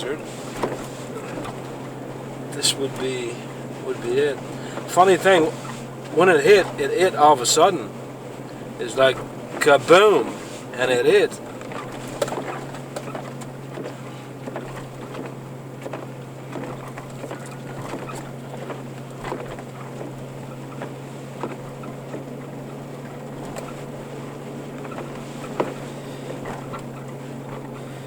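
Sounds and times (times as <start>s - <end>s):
vehicle engine and road drone: 0.0s - 28.0s.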